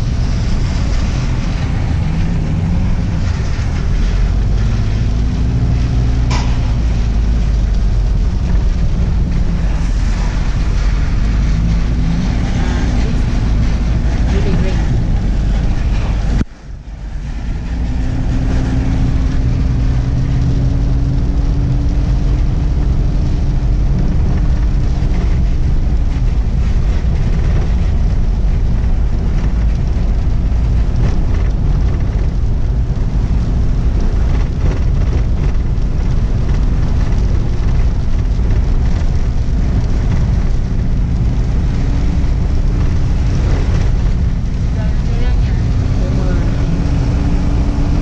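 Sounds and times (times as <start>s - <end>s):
tyres rumbling on dirt road: 0.0s - 48.0s
vehicle engine running: 0.0s - 48.0s.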